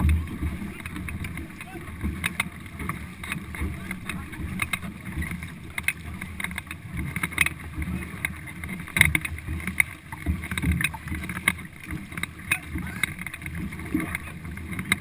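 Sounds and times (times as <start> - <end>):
paddles splashing in water: 0.0 - 15.0
water rumbling along hull: 0.0 - 15.0.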